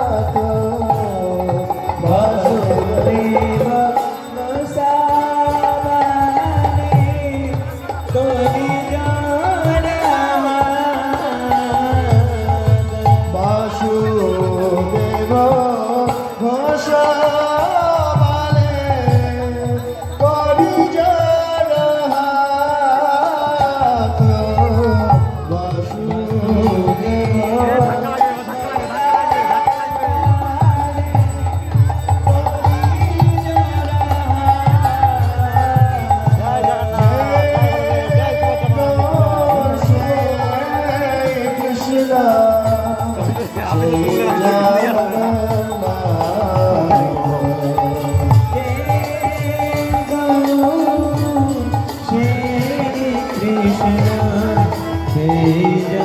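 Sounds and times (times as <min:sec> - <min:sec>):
hand drum beat: 0:00.0 - 0:22.8, 0:23.4 - 0:56.0
devotional singing: 0:00.0 - 0:56.0.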